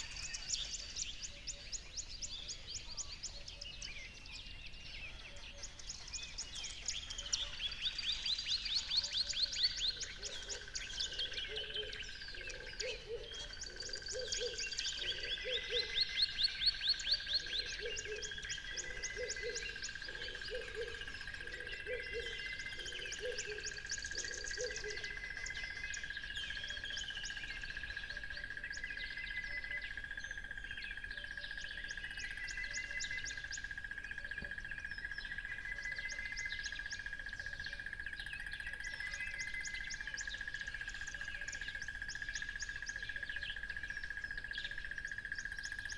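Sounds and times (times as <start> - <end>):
birds chirping and trilling: 0.0 - 45.9.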